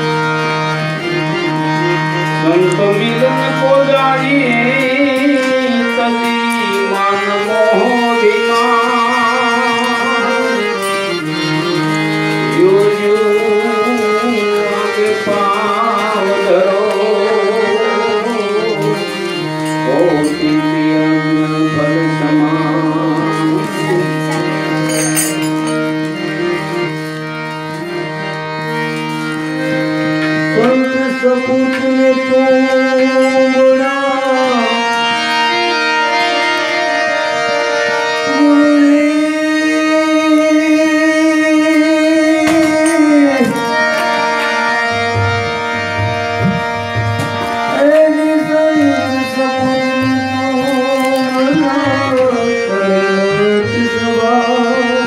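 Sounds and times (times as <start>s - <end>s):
harmonium playing: 0.0s - 55.0s.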